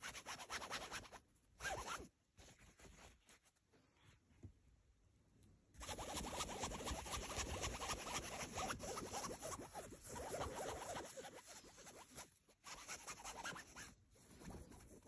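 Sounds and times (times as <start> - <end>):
scratching on fabric tent wall: 0.0 - 3.6, 5.8 - 15.0.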